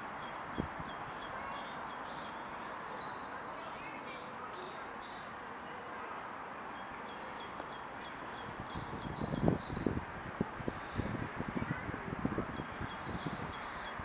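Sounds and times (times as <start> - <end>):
small birds chirping: 0.0 - 14.0
steady background noise: 0.0 - 14.0.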